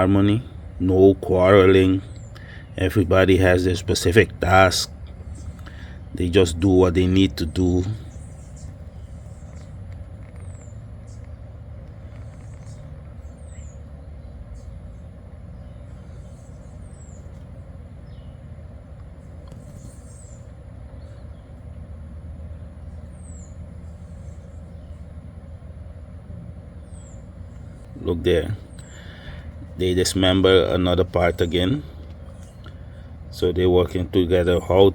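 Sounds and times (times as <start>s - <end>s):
distant traffic rumble: 0.0s - 34.9s.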